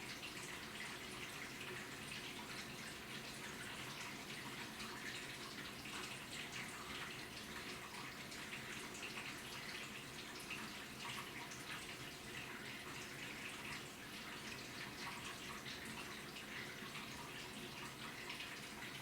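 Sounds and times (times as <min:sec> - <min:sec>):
water splashing in washing machine: 0:00.0 - 0:19.0.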